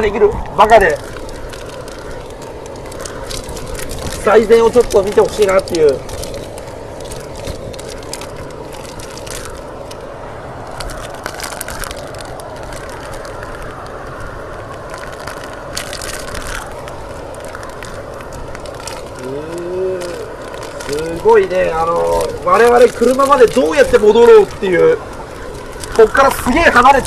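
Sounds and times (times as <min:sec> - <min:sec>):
scattered crackles: 0:00.0 - 0:27.0
strong wind rushing: 0:00.0 - 0:27.0.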